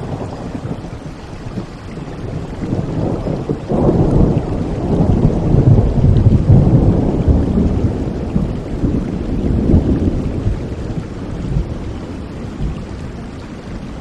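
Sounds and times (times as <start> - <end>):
rolling thunder: 0.0 - 14.0
steady rain: 0.0 - 14.0.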